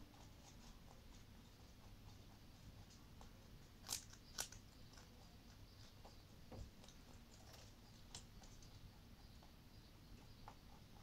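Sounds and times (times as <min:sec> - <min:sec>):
rabbit chewing clicks: 0:00.0 - 0:11.0
rabbit crunching carrot: 0:00.0 - 0:11.0.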